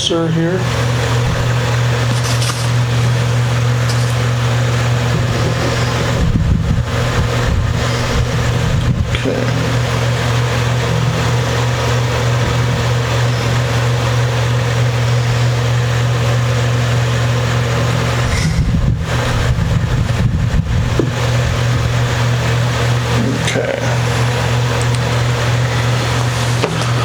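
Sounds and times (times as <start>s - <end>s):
electric fan running: 0.0s - 27.0s
uneven low rumbling: 0.0s - 27.0s.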